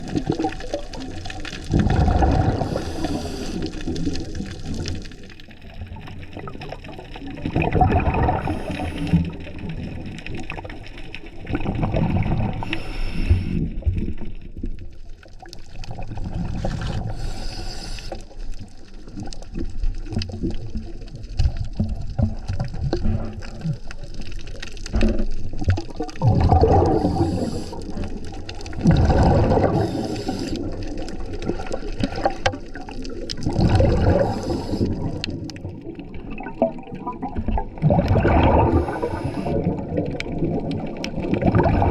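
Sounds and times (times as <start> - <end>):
low rumble of moving water: 0.0 - 41.9.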